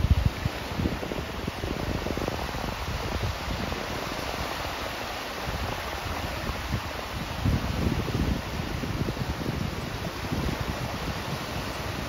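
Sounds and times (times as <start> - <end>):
sea waves breaking on shore: 0.0 - 12.0.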